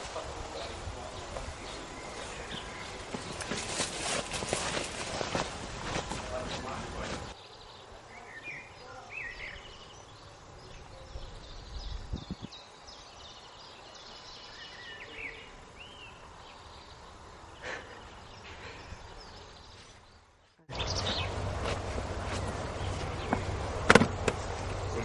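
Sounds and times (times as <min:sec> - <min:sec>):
outdoor background noise: 0:00.0 - 0:25.0
small birds chirping: 0:00.0 - 0:25.0.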